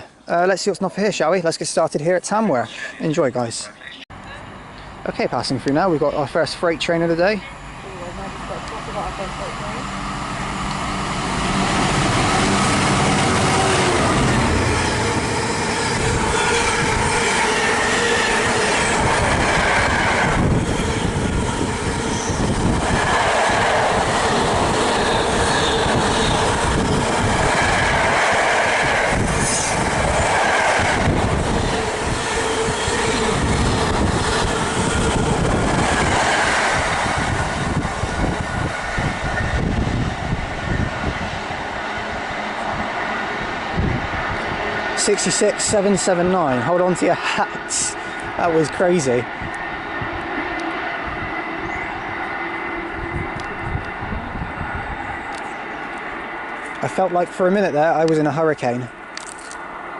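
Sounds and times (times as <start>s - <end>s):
freight train rushing past: 4.2s - 59.9s.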